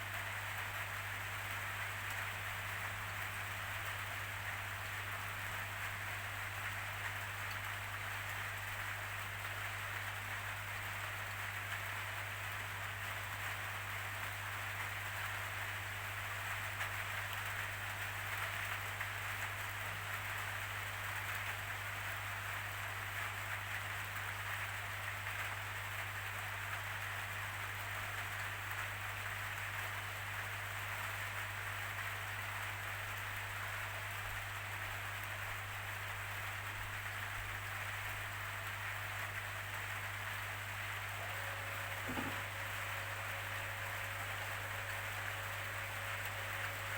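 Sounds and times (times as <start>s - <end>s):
steady rainfall: 0.0s - 46.9s.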